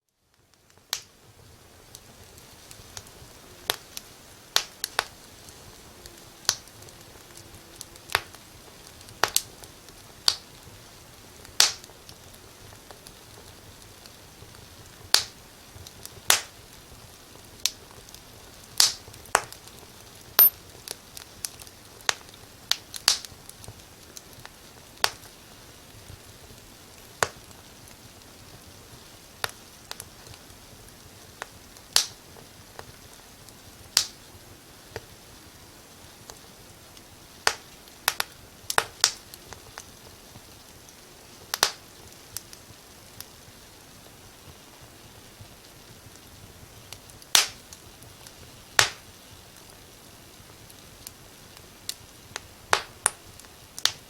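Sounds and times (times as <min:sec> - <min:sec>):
faint steady hiss: 0:00.0 - 0:54.0
fire crackling in a fireplace: 0:00.0 - 0:54.0.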